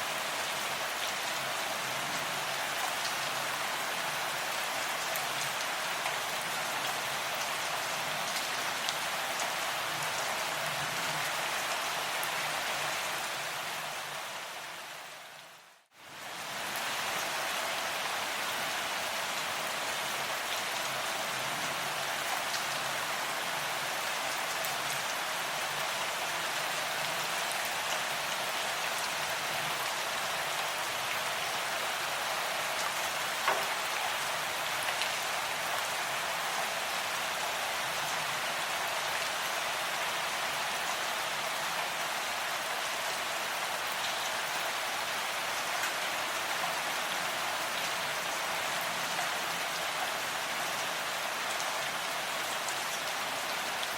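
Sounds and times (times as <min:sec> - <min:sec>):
steady rain hiss: 0:00.0 - 0:53.9.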